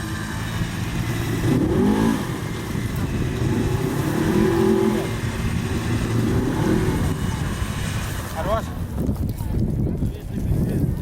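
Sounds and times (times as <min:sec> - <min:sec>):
buggy engine revving: 0:00.0 - 0:09.3.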